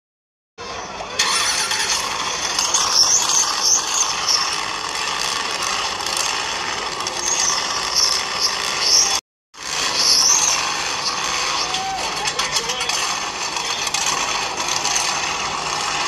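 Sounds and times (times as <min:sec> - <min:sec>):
toy car motor whining and rattling: 0:00.7 - 0:16.0.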